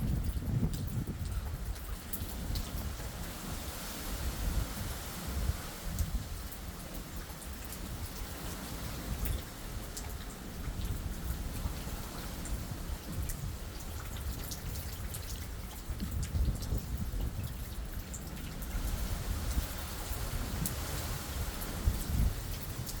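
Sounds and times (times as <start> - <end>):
raindrops ticking on surface: 0.0 - 23.0
steady hiss of rain: 0.0 - 23.0.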